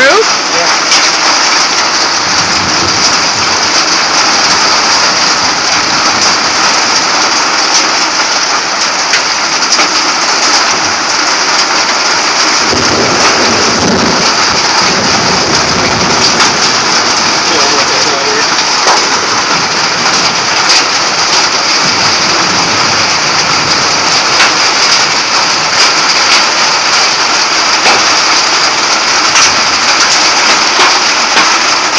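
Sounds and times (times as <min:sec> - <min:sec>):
hail drumming on vehicle roof: 0:00.0 - 0:31.9.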